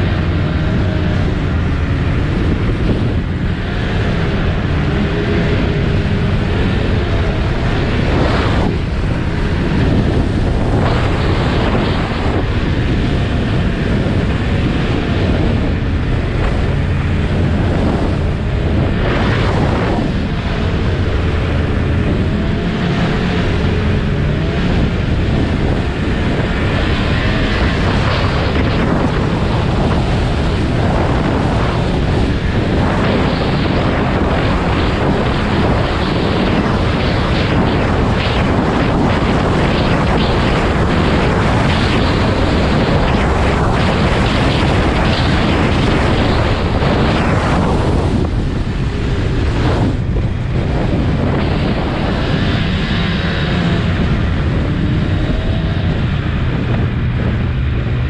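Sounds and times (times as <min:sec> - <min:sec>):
snowmobile engine drone: 0:00.0 - 0:58.0
wind noise on microphone: 0:00.0 - 0:58.0.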